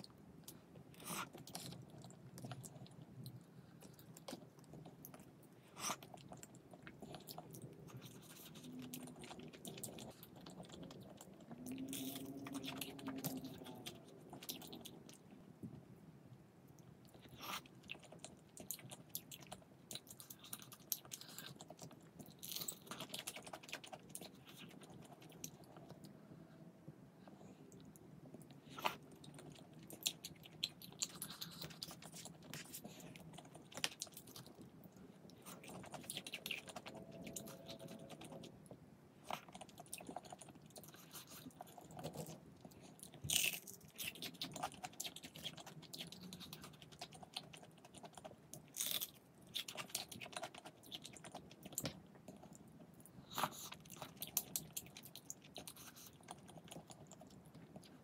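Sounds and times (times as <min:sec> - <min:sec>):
person chewing and crunching: 0:00.0 - 0:15.3, 0:16.8 - 0:26.1, 0:27.7 - 0:58.0.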